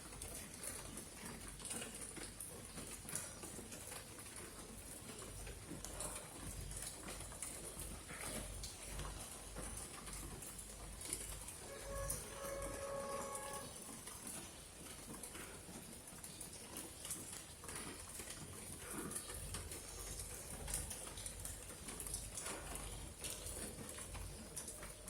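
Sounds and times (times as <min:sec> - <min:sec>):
water drips and taps: 0:00.0 - 0:25.0
steady rain hiss: 0:04.8 - 0:25.0.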